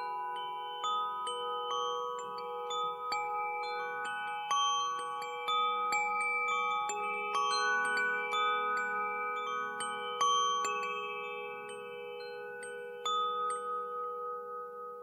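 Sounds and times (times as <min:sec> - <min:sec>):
wind chime ringing: 0:00.0 - 0:15.0.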